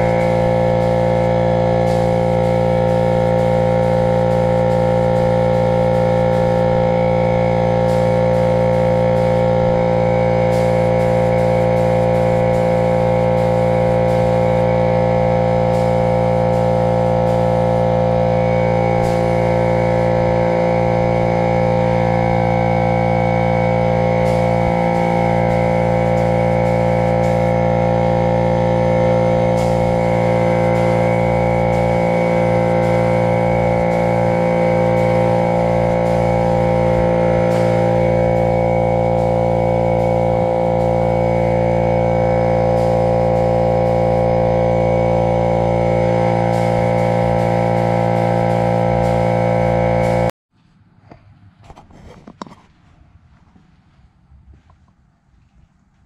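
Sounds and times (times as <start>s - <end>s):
held drone of sustained tones: 0.0s - 50.3s.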